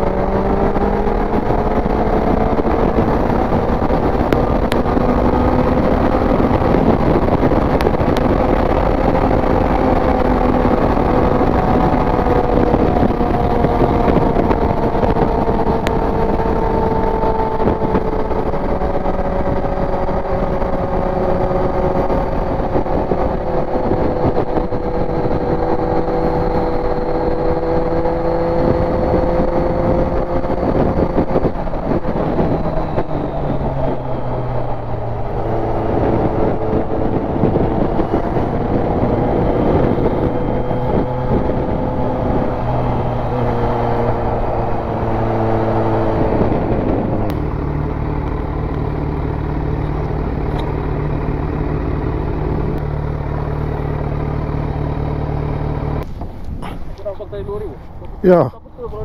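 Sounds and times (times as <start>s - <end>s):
motorcycle engine shifting gears: 0.0s - 59.0s
wind noise: 0.0s - 59.0s.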